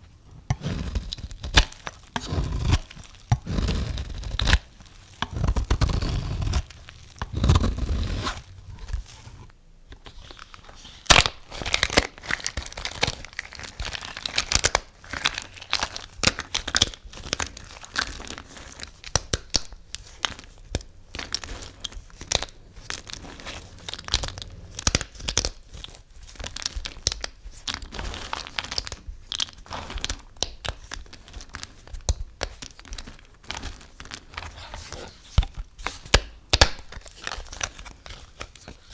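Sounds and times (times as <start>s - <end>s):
blade scraping bar soap: 0.5s - 38.9s
soap crackling and crunching: 0.5s - 38.9s.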